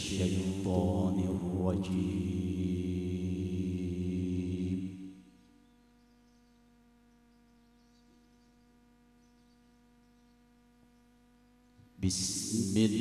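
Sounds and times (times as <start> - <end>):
faint electrical mains hum: 0.0 - 13.0.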